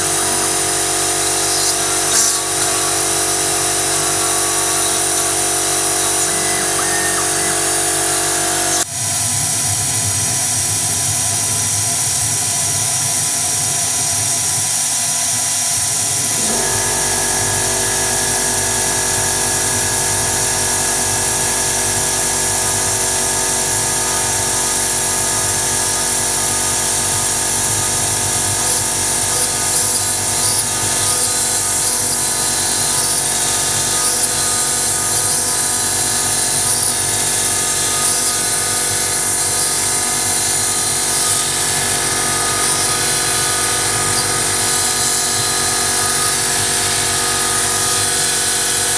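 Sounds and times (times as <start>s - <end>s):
router spindle whining: 0.0s - 9.3s, 15.7s - 48.9s.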